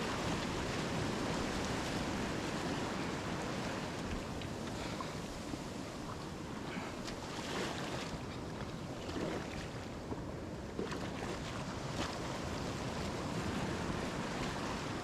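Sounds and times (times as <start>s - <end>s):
sea water sloshing around kayak: 0.0s - 15.0s
waves: 0.0s - 15.0s.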